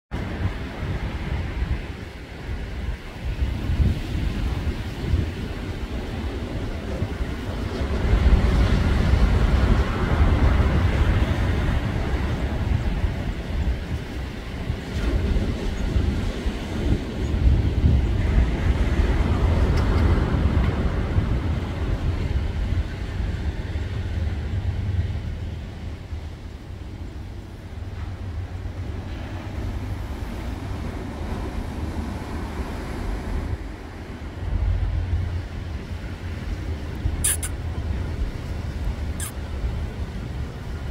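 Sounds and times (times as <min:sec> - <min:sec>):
heavy surf breaking: 0:00.1 - 0:40.9
wind rumbling on microphone: 0:00.1 - 0:40.9.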